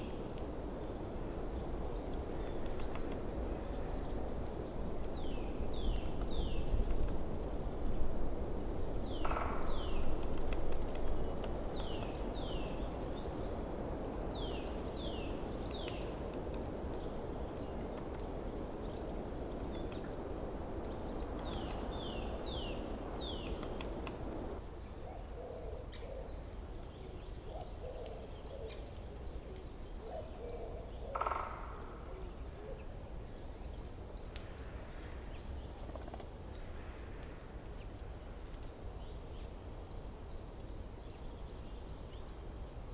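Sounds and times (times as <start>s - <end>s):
small birds chirping: 0.0s - 24.6s, 25.7s - 31.4s, 32.8s - 42.9s.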